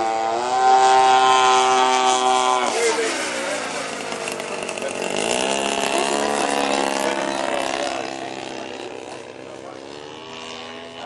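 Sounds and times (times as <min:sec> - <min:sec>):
model aeroplane engine buzzing: 0:00.0 - 0:11.0.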